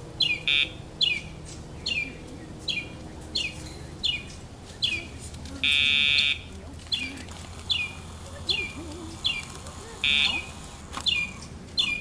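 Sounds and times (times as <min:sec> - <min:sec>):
bird chirping: 0:00.2 - 0:12.0.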